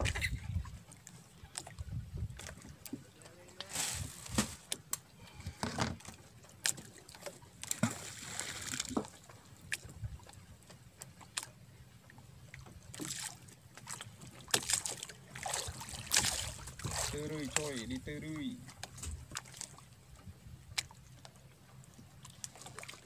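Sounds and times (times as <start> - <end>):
water slapping against boat hull: 0.0 - 23.0.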